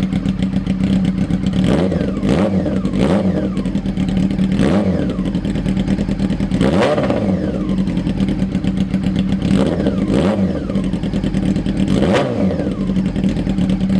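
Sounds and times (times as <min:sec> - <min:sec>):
motorcycle engine idling and revving: 0:00.0 - 0:13.9.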